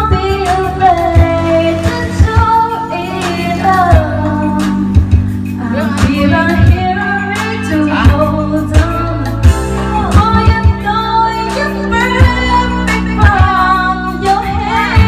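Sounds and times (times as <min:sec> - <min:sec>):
pop backing track with drum beat: 0:00.0 - 0:15.0
woman singing: 0:00.0 - 0:15.0.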